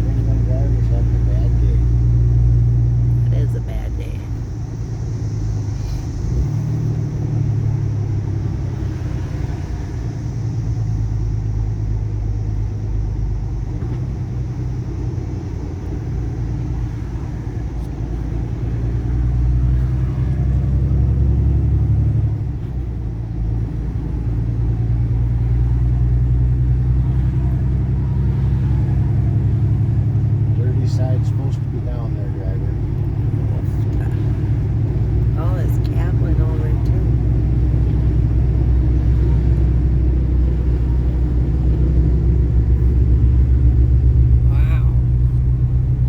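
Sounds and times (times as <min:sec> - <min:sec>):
road rumble: 0:00.0 - 0:46.0
truck engine drone: 0:00.0 - 0:46.0.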